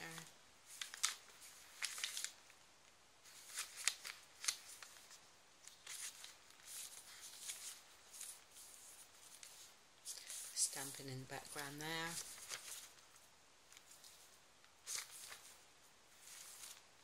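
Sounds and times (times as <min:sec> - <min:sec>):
paper pages rustling: 0:00.0 - 0:02.6, 0:03.2 - 0:17.0.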